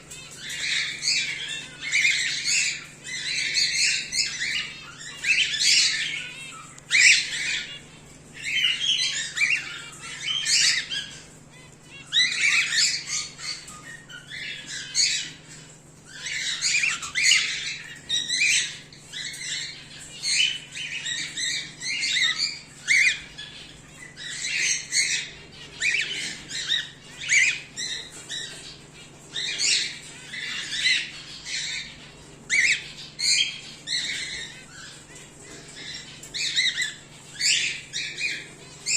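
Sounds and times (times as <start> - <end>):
cockatiels calling: 0.0 - 38.9.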